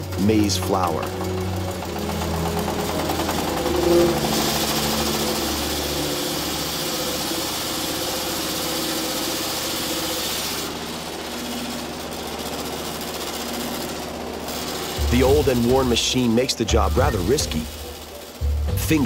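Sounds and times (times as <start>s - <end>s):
grinding mill rushing noise: 0.0s - 19.0s
low engine hum: 0.0s - 19.0s.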